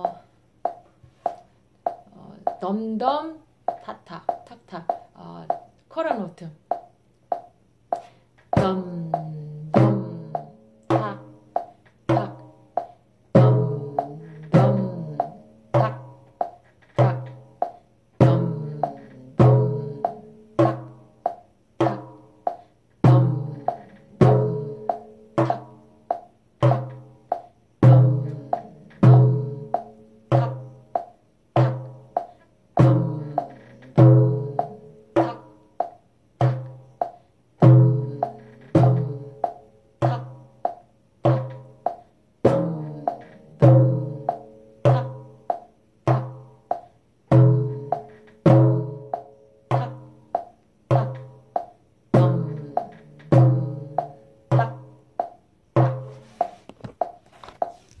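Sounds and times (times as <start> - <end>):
frame drum rhythm: 0.0 - 58.0.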